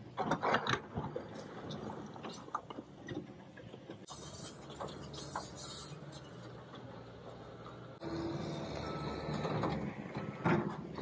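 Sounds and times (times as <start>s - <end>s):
excavator engine running: 1.1s - 11.0s.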